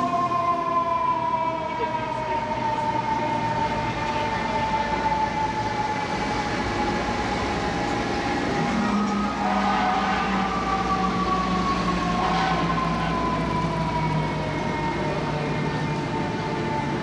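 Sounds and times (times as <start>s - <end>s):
fire engine siren wailing: 0.0s - 17.0s
higher siren tone: 0.0s - 17.0s
truck engine rumble: 0.0s - 17.0s.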